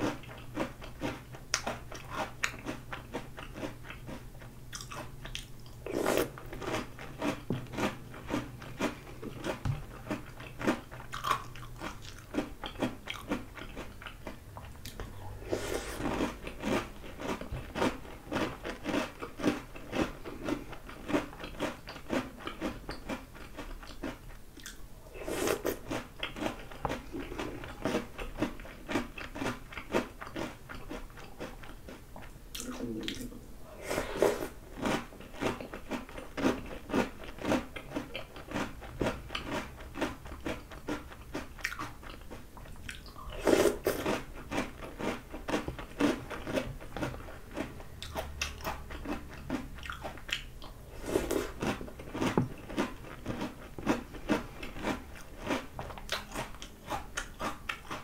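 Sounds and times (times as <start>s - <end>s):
chewing and crunching cereal: 0.0s - 58.0s.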